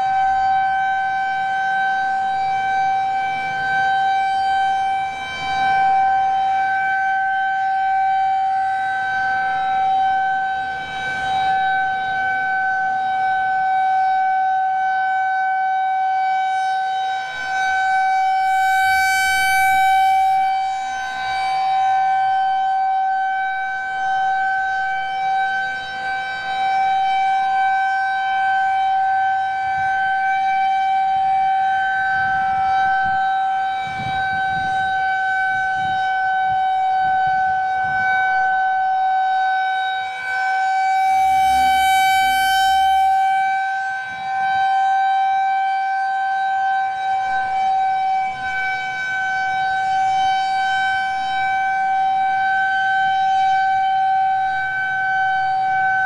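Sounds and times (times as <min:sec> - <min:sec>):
rotating warning siren: 0:00.0 - 0:56.0.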